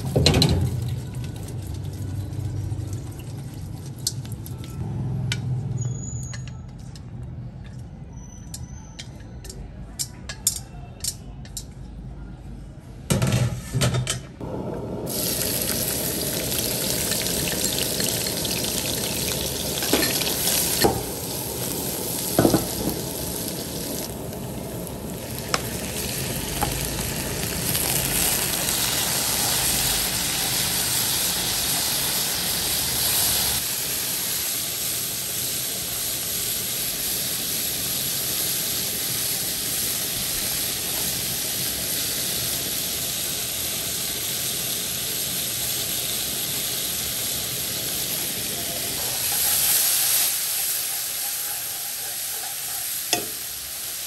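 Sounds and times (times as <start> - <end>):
garlic sizzling in a wok: 0.0 - 4.4, 14.4 - 54.0
small crackles of frying: 0.0 - 4.8, 15.1 - 54.0.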